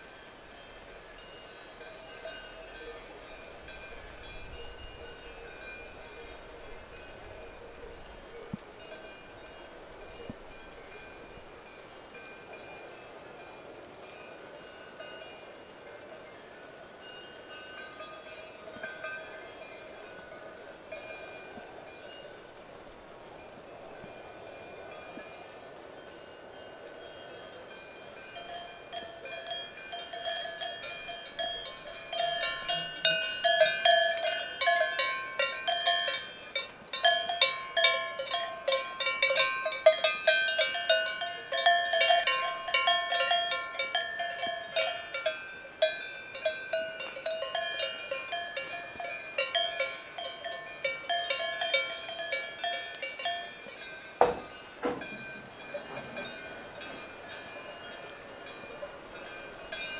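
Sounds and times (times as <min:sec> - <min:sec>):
cowbells clanking: 0:00.6 - 0:13.0, 0:16.6 - 0:22.4, 0:26.0 - 0:59.9.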